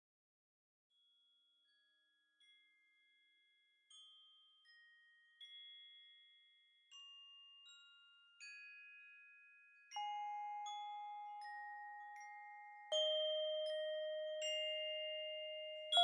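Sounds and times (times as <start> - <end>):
bell-like mallet percussion notes: 1.8 - 16.0.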